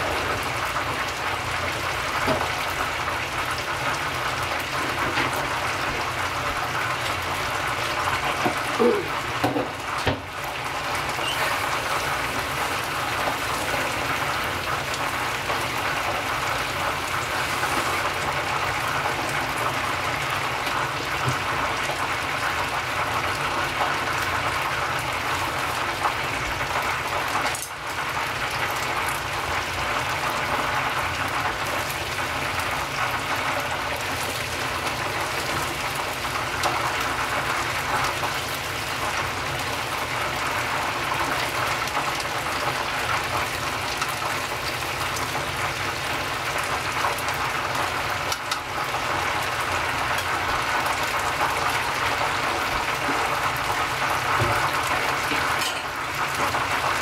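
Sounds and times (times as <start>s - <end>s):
oil sizzling and crackling: 0.0s - 57.0s.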